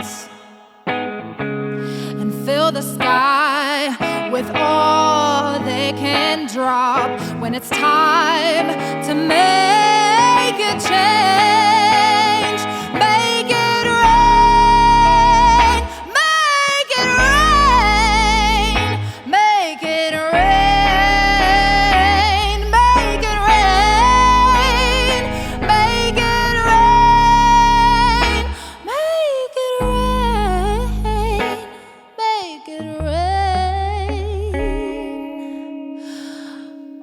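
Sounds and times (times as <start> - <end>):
woman singing with vibrato: 0.0 - 0.8, 2.0 - 37.0.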